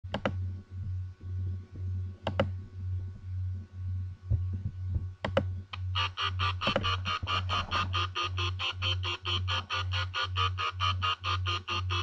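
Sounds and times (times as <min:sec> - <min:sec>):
pulsing low hum: 0:00.1 - 0:12.0.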